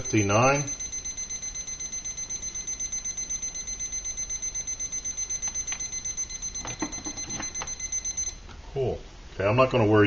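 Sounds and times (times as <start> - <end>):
thermometer alarm beeping rapidly: 0.0 - 8.4.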